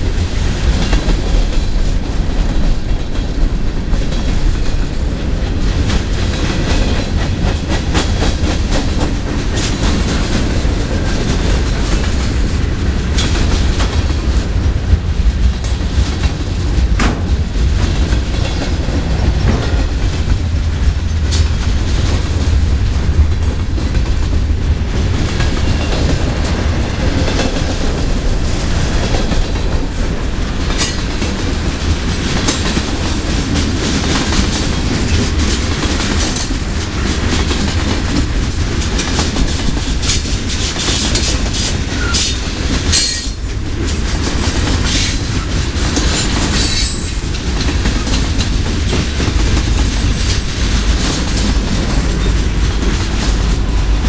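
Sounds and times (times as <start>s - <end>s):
freight train cars rolling past: 0.0s - 54.0s
wheels clacking over rail joints: 0.0s - 54.0s.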